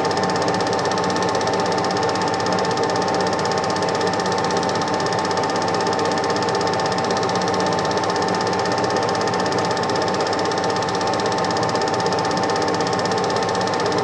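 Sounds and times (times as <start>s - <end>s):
film projector clatter: 0.0s - 14.0s
projector whine: 0.0s - 14.0s.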